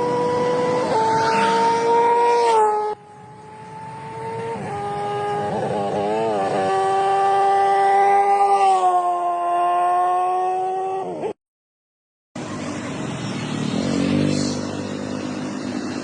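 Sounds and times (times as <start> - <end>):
motorcycle engine high revs: 0.0 - 11.4, 12.4 - 16.0.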